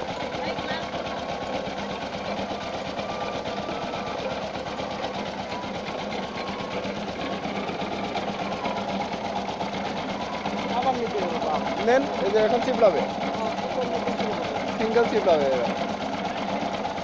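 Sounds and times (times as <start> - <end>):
juice roller mill running: 0.0 - 17.0.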